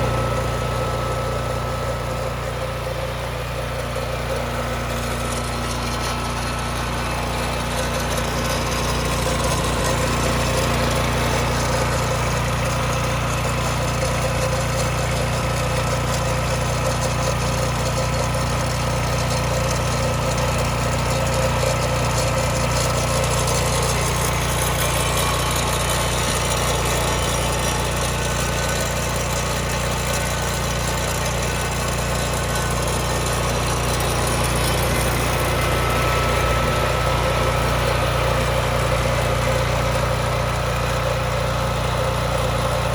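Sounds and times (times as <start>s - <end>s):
concrete saw engine running: 0.0s - 42.9s.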